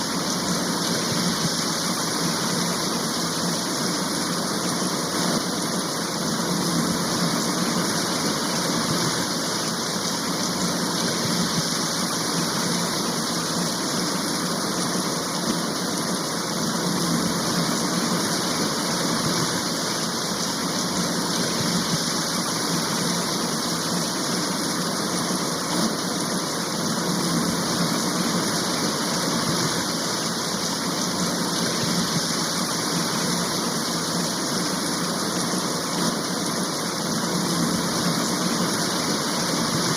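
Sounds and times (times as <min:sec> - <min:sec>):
heavy rain shower: 0:00.0 - 0:39.9.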